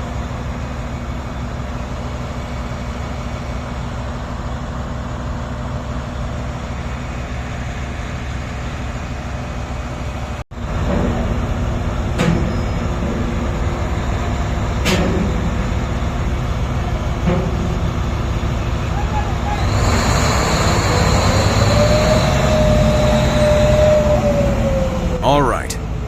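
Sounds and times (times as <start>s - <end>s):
diesel truck engine rumbling: 0.0s - 26.0s.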